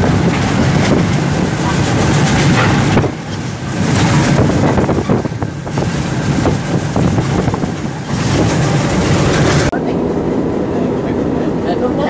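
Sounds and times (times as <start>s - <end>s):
wheels on rails: 0.0s - 9.7s
diesel locomotive engine rumble: 0.0s - 12.0s.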